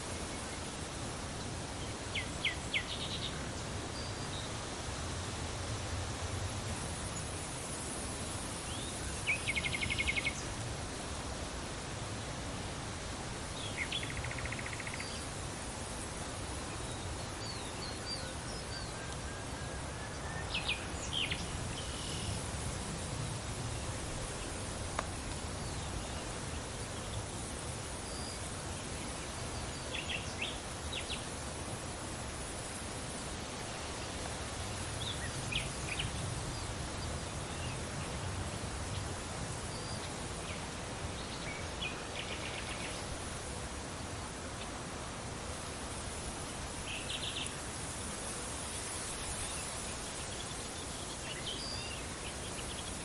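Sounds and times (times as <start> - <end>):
steady wind noise: 0.0 - 53.0.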